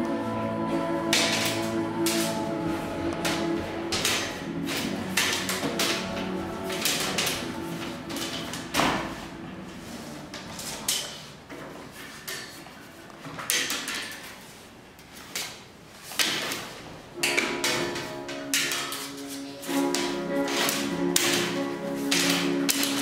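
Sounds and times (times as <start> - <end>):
willow rods swishing and rustling: 0.3 - 13.2, 14.1 - 23.0.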